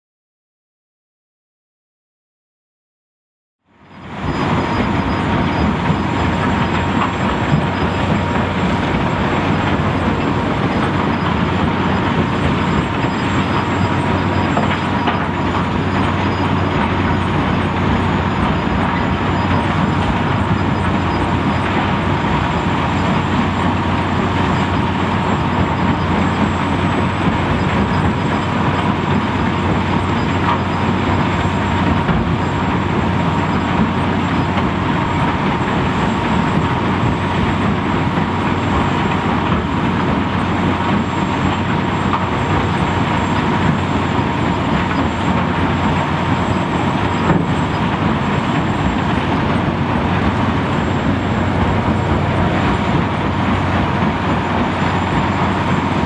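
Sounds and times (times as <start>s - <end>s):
hydraulic excavator working: 3.7s - 56.0s.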